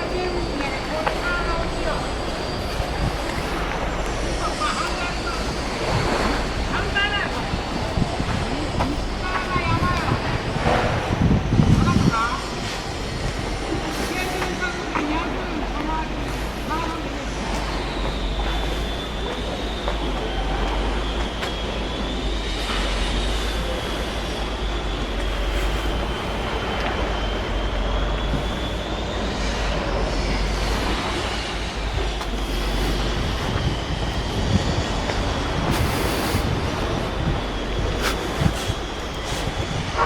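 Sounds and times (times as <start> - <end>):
heavy metallic rumbling: 0.0 - 40.0.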